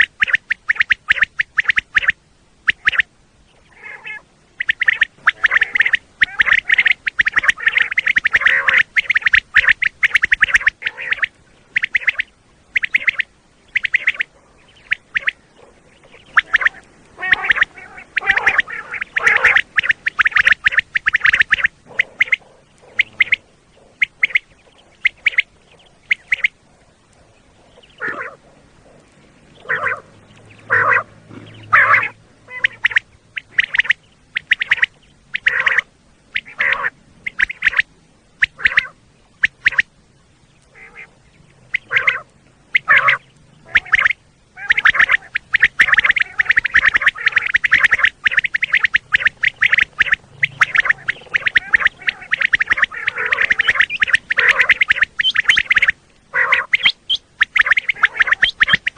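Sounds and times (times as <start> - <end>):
quail calling: 0.0 - 40.0, 40.6 - 58.9.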